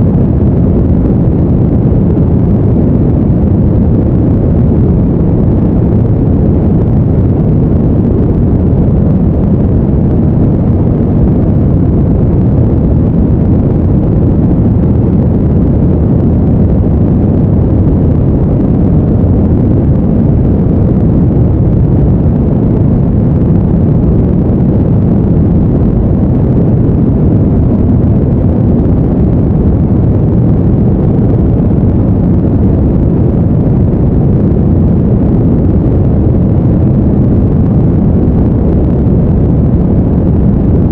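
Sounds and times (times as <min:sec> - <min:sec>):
deep brown noise rushing: 0:00.0 - 0:40.9.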